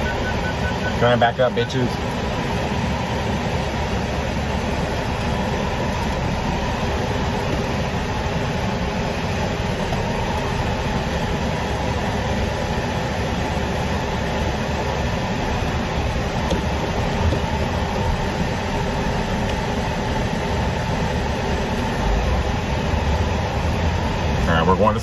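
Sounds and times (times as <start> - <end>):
air conditioning blowing: 0.0 - 25.0
engine and road rumble: 0.0 - 25.0.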